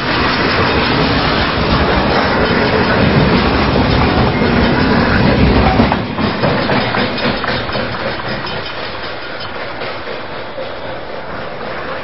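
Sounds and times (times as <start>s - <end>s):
train wheel clicks: 0.0s - 12.0s
train wheels rumbling on rails: 0.0s - 12.0s.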